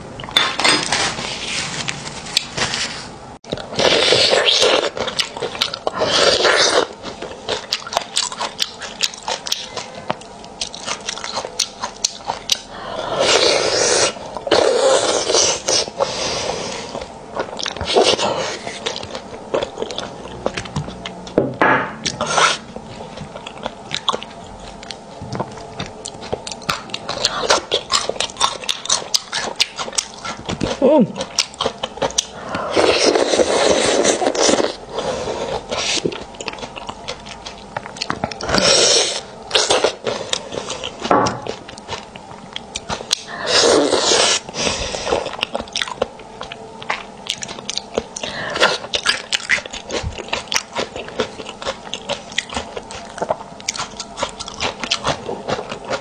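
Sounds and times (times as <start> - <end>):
wet chewing: 3.4 - 16.2, 16.8 - 21.4, 22.0 - 56.0.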